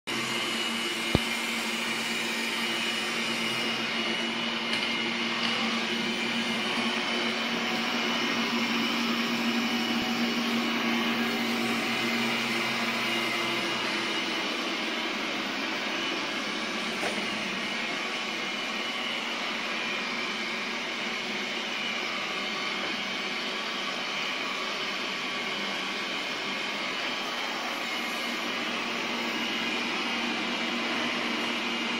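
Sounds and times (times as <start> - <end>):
robot vacuum whirring: 0.1 - 31.9.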